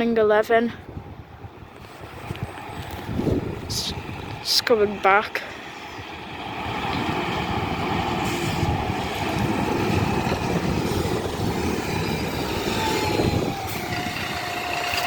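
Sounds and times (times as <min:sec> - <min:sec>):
heavy vehicle engine rumble: 0:00.8 - 0:15.0.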